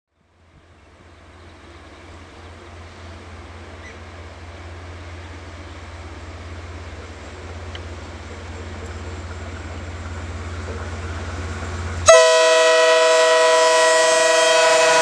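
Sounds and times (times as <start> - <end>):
diesel locomotive engine drone: 0.1 - 15.0.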